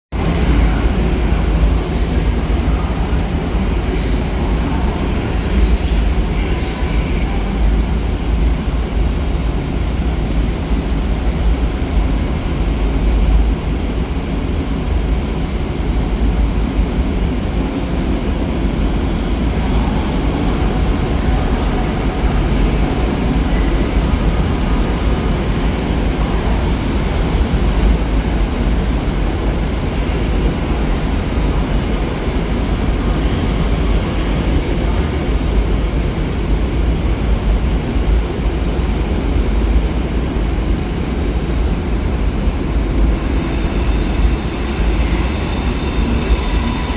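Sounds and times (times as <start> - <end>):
train rumbling along tracks: 0.1 - 46.9.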